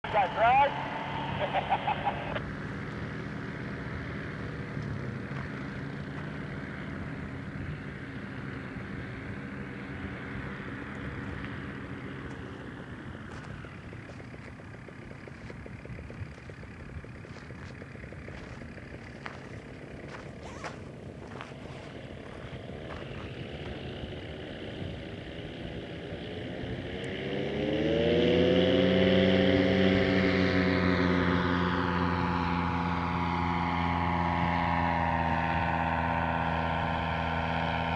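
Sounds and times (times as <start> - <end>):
engine running: 0.0 - 37.9.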